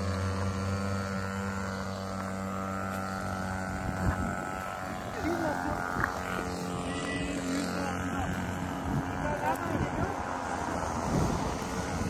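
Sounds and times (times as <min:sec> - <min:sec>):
model airplane engine running: 0:00.0 - 0:12.0.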